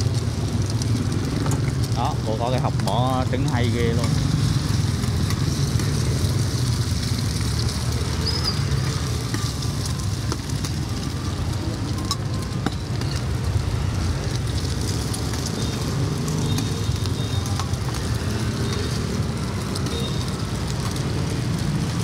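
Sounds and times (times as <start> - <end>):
oil sizzling on iron pan: 0.0 - 22.0.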